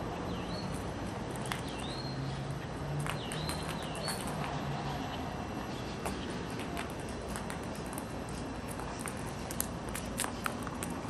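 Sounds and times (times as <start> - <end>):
steady outdoor hum: 0.0 - 11.0.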